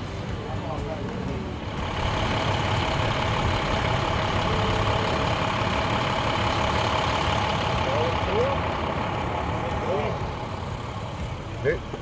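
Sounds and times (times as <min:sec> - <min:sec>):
heavy engine idling: 0:00.0 - 0:12.0
steady whine: 0:00.0 - 0:12.0.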